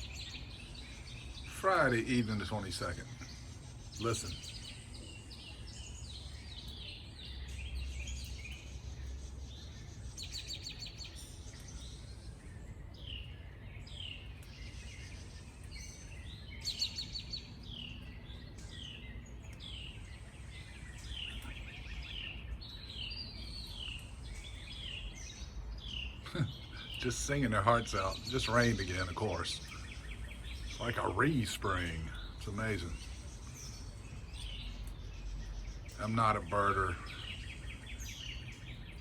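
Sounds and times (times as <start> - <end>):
songbirds singing in chorus: 0.0 - 39.0.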